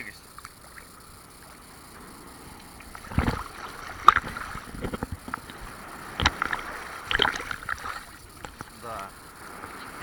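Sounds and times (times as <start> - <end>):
sea waves splashing and surging: 0.0 - 10.0.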